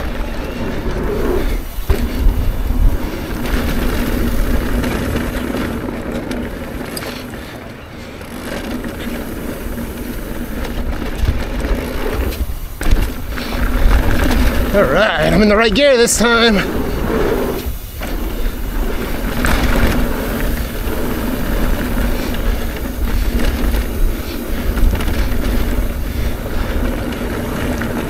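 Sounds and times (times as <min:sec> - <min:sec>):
wind rumble on microphone: 0:00.0 - 0:07.0, 0:08.5 - 0:28.0
tyres crunching over gravel: 0:00.0 - 0:28.0.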